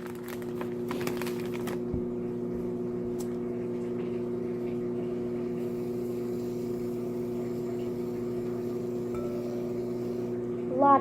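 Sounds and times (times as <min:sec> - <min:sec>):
steady low hum: 0:01.8 - 0:11.0.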